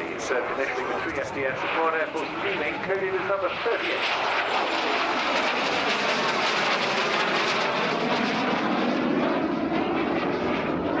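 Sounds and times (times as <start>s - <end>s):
jet passing overhead: 0.0s - 11.0s.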